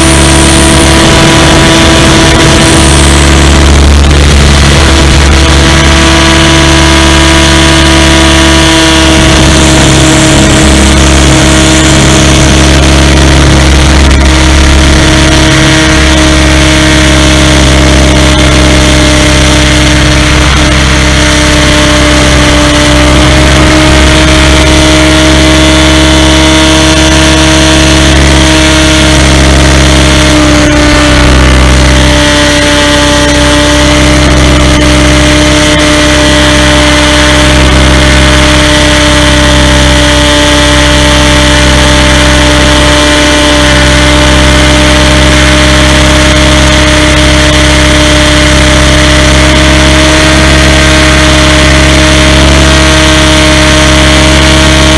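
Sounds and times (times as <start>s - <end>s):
rc helicopter motor whine: 0.0s - 54.9s
rotor wash rumble: 0.0s - 54.9s.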